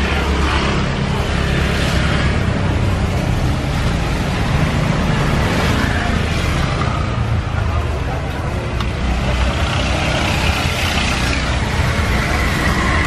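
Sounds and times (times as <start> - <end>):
traffic rumble with hiss: 0.0 - 13.0.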